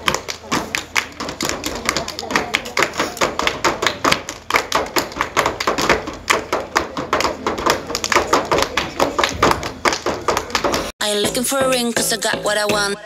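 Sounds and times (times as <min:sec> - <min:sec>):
group clapping hands: 0:00.0 - 0:11.0
dance steps stamping on stage: 0:00.0 - 0:13.0.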